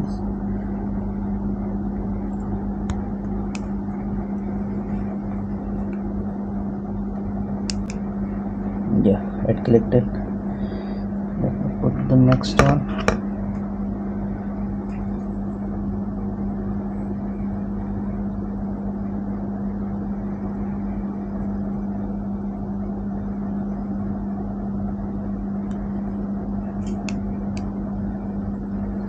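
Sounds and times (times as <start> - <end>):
steady droning hum: 0.0 - 29.0.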